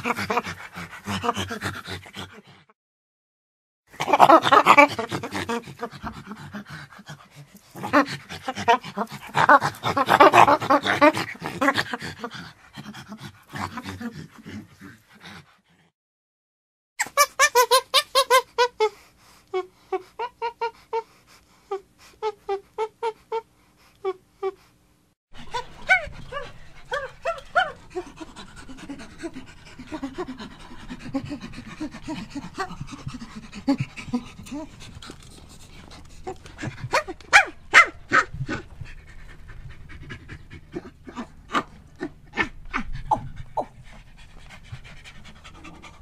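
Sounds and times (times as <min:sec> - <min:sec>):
chimpanzee panting: 0:00.0 - 0:02.7, 0:04.0 - 0:15.9, 0:17.6 - 0:24.7, 0:25.4 - 0:46.0.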